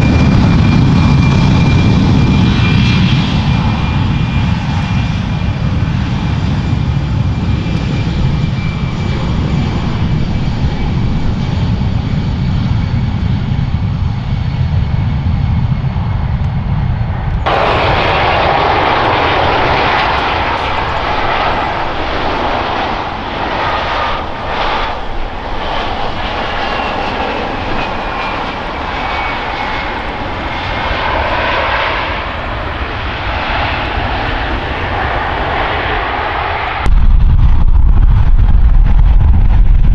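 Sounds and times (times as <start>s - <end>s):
jet engines roaring: 0.0s - 39.9s
jet engines rumbling and whining: 0.0s - 39.9s.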